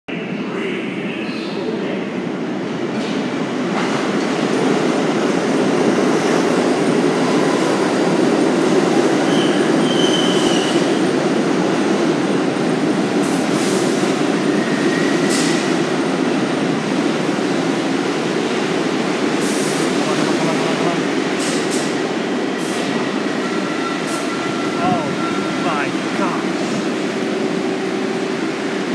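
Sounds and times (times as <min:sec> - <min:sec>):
subway train rumble: 0:00.1 - 0:28.9.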